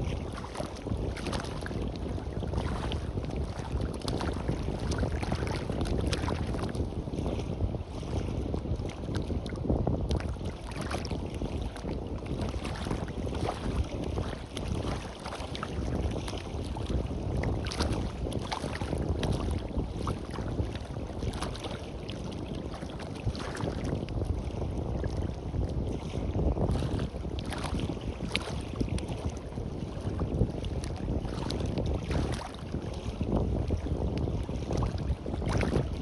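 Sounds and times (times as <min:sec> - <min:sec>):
waves washing on a beach: 0:00.0 - 0:36.0
wind buffeting the microphone: 0:00.0 - 0:36.0.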